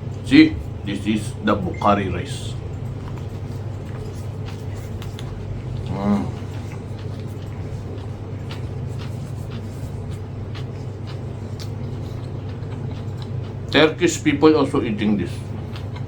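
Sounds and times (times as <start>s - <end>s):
steady low hum: 0.0s - 16.0s
chewing: 2.3s - 16.0s.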